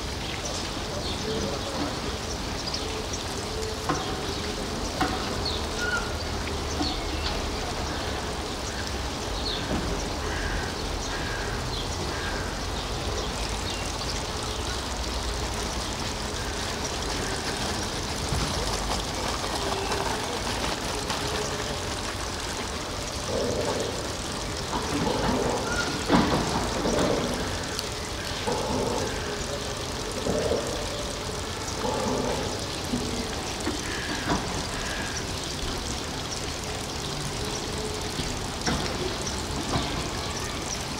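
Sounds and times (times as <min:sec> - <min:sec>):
construction noise rumble: 0:00.0 - 0:40.9.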